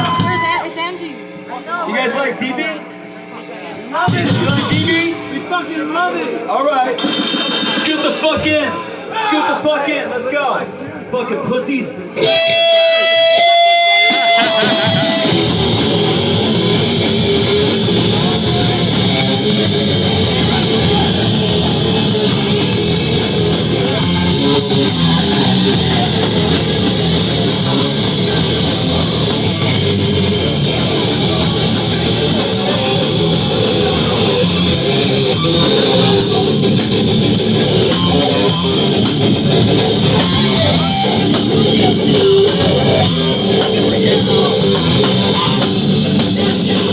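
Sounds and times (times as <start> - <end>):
live rock band playing: 0.0 - 1.4, 4.0 - 5.9, 6.9 - 9.1, 12.1 - 46.9.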